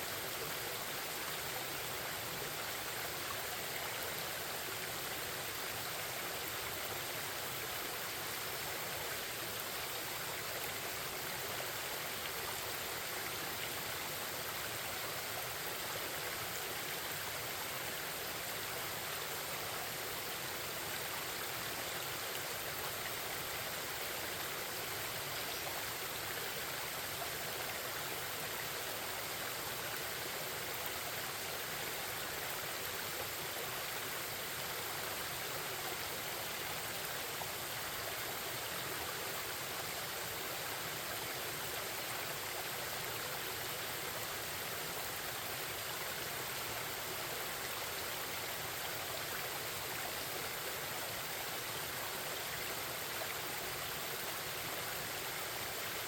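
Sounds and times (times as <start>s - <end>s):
babbling stream: 0.0s - 56.0s.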